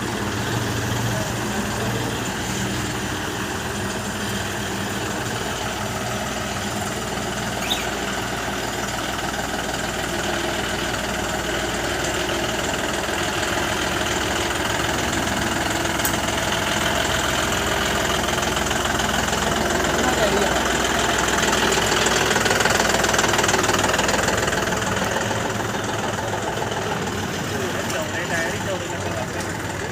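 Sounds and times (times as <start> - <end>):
tractor diesel engine idling: 0.0 - 29.9.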